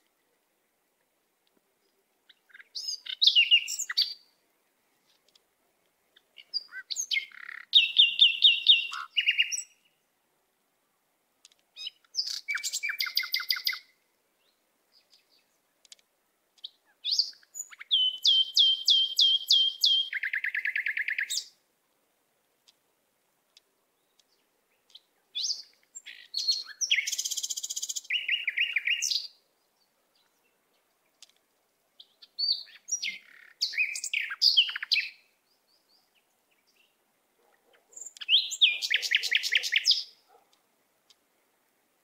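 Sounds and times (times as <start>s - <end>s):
songbird singing: 0.0s - 42.0s.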